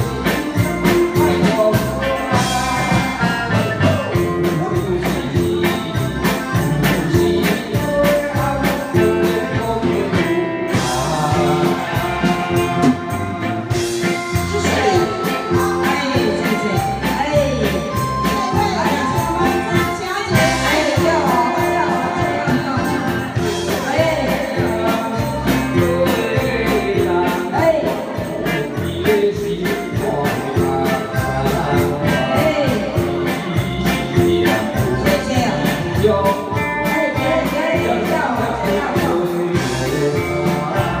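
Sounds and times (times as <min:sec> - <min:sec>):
woman singing: 0:00.0 - 0:03.6, 0:06.8 - 0:13.0, 0:14.4 - 0:41.0
drum kit: 0:00.0 - 0:41.0
electric guitar: 0:00.0 - 0:41.0
keyboard: 0:00.0 - 0:41.0
man singing: 0:00.0 - 0:41.0.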